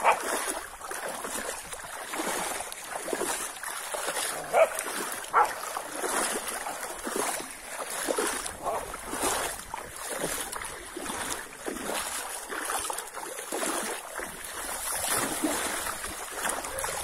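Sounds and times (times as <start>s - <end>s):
dog swimming in water: 0.0s - 17.0s
floodwater sloshing and splashing: 0.0s - 17.0s.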